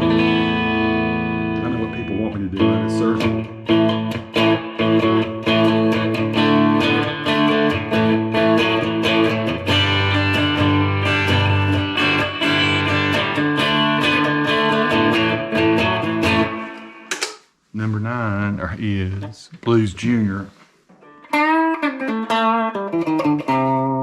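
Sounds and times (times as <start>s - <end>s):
surf-style electric guitar: 0.0s - 17.0s, 21.0s - 24.0s.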